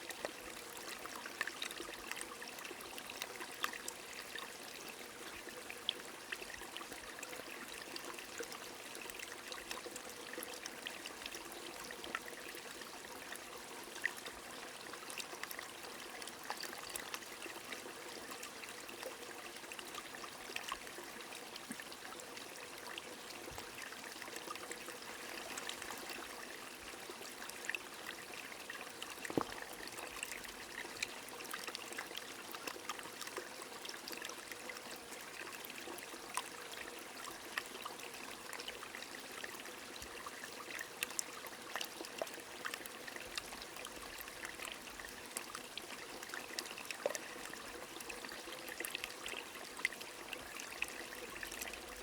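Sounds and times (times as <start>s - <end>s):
stream trickling: 0.0s - 52.0s.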